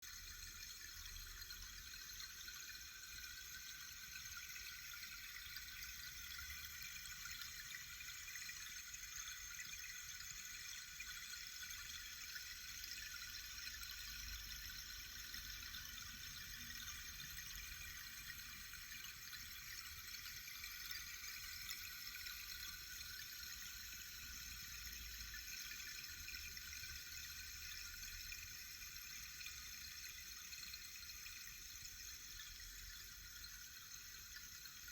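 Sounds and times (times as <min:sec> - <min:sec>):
rain stick grains trickling: 0:00.1 - 0:34.9.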